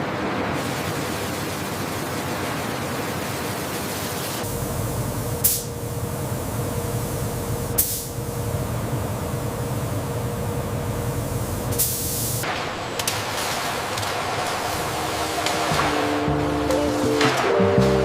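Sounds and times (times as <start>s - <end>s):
factory machinery hum: 0.0s - 18.0s.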